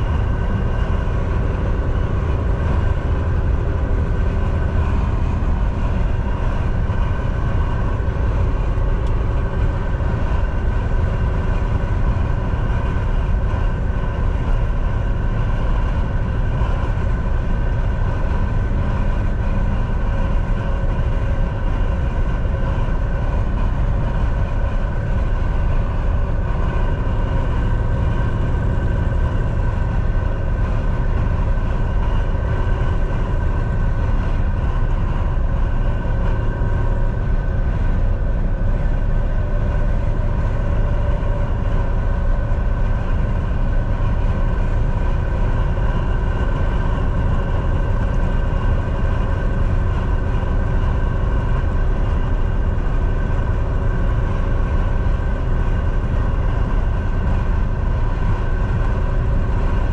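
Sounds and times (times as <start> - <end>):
low road rumble: 0.0 - 59.9
truck engine drone: 0.0 - 59.9.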